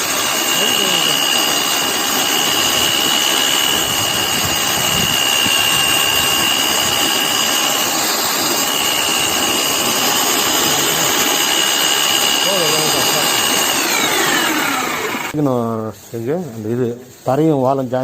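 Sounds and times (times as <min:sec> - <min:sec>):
power mixer whining: 0:00.0 - 0:15.4.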